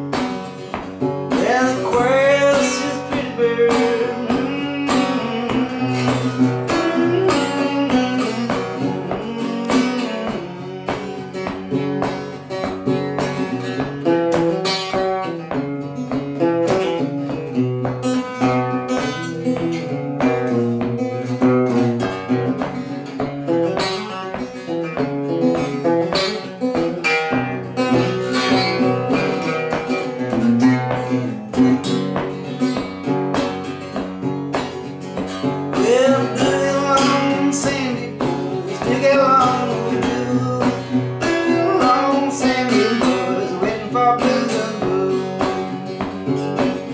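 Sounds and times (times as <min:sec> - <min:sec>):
acoustic guitar solo: 0:00.0 - 0:46.9.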